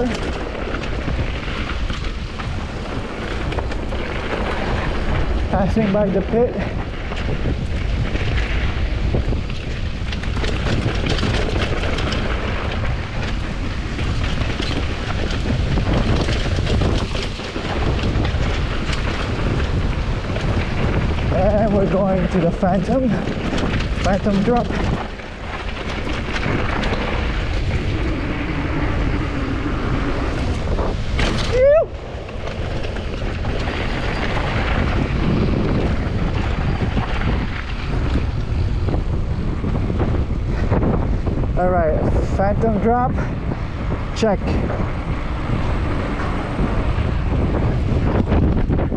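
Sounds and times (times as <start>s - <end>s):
bike rattling over rough ground: 0.0s - 48.9s
rushing tyres and air: 0.0s - 48.9s
wind buffeting microphone: 0.0s - 48.9s.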